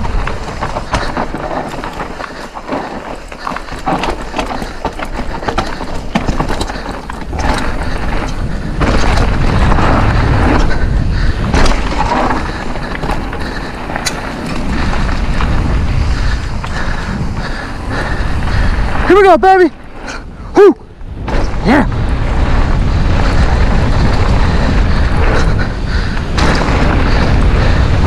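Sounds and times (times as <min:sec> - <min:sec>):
bike chain and frame rattling: 0:00.0 - 0:20.5, 0:21.1 - 0:28.0
tyres rolling on packed dirt: 0:00.0 - 0:28.0
wind buffeting rumble: 0:00.0 - 0:28.0.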